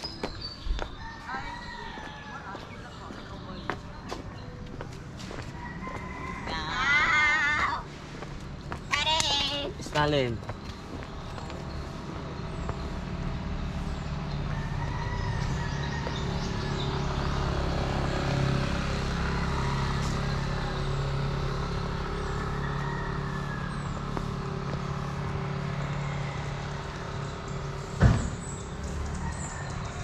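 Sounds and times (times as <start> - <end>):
vehicle engine running: 2.0 - 30.0.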